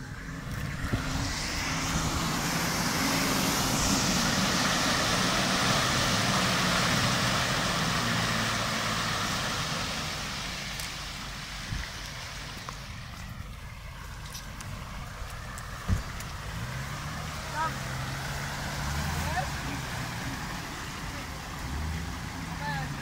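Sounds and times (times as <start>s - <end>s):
suv engine working: 0.0s - 23.0s
tyres splashing through mud and water: 0.0s - 23.0s.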